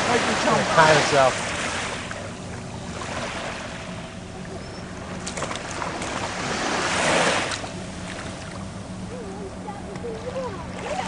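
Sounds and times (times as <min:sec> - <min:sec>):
ocean surf on sandy beach: 0:00.0 - 0:11.0
wave breaking: 0:00.0 - 0:11.0.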